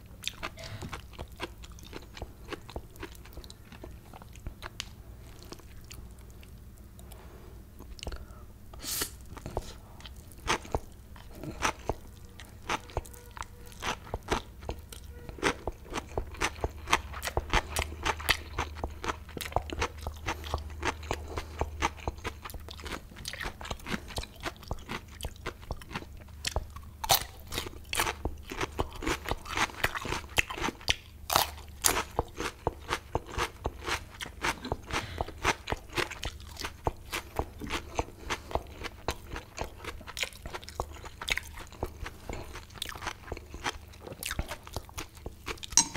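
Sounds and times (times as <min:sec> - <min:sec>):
person chewing crunchy food: 0:00.0 - 0:08.4, 0:09.2 - 0:45.9.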